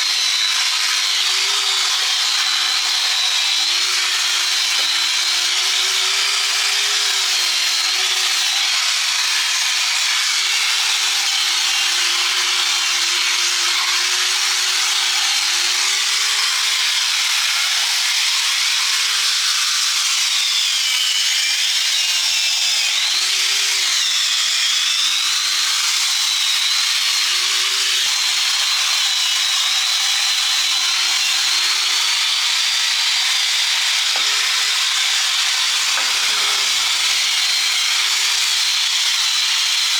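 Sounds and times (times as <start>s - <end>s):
power tool grinding metal: 0.0s - 39.9s.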